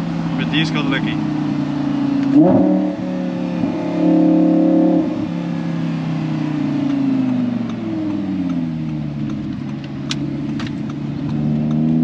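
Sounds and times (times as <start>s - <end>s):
sports car engine running: 0.0s - 12.0s.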